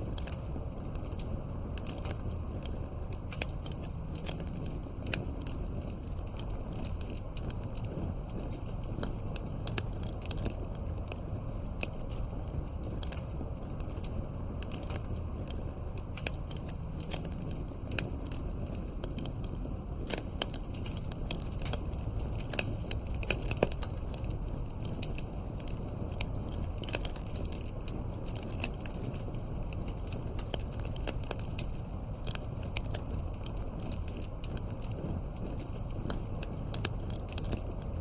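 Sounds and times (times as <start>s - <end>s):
burning wood crackling and popping: 0.0s - 38.0s
campfire flames rumbling: 0.0s - 38.0s.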